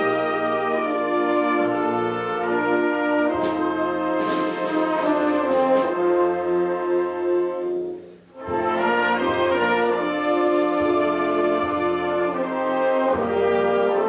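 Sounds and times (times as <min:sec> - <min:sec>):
wind band brass and reed chords: 0:00.0 - 0:14.0.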